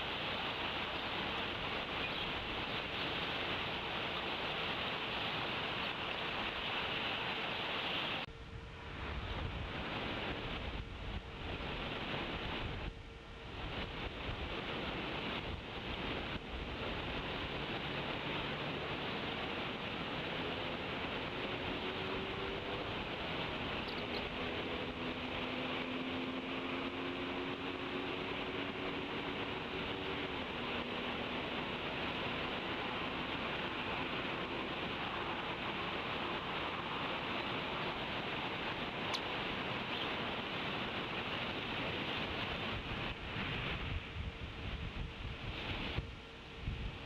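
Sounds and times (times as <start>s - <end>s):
wind: 0.0s - 47.0s.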